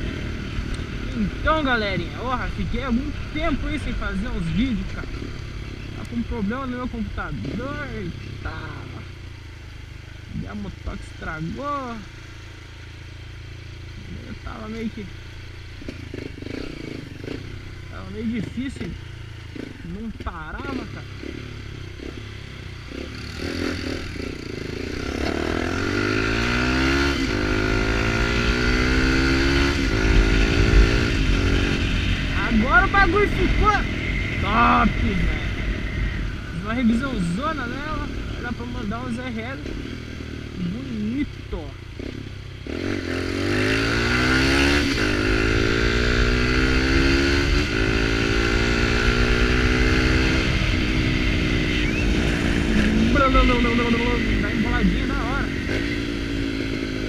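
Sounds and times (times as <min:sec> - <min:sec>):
motorcycle accelerating: 0:00.0 - 0:57.0.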